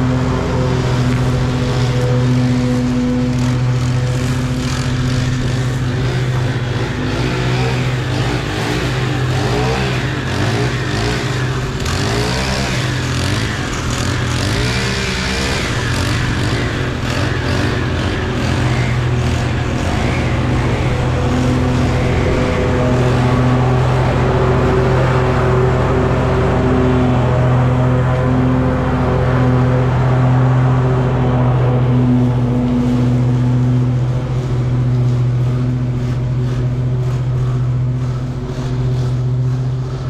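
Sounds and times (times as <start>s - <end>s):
lawn mower engine running: 0.0s - 40.0s.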